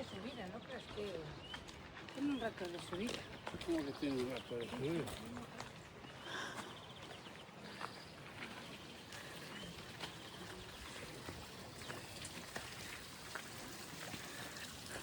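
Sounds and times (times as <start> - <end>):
faint trickling water: 0.0 - 15.0
small drips and ticks: 0.4 - 6.0, 6.6 - 15.0.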